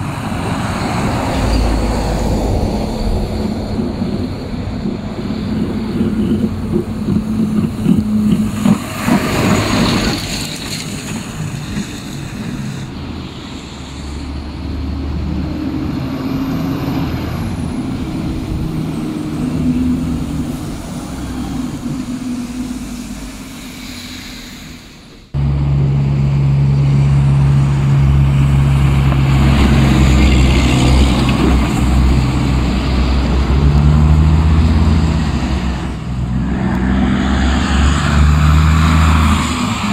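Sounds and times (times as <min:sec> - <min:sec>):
diesel engine running close by: 0:00.0 - 0:39.9
trucks driving past on snowy road: 0:00.0 - 0:39.9.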